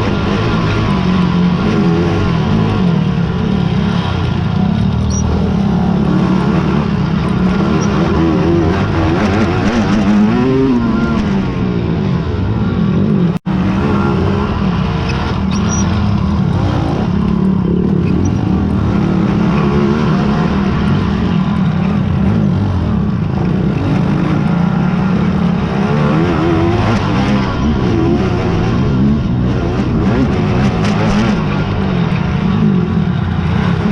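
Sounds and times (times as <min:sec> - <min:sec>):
quad engines revving: 0:00.0 - 0:33.9.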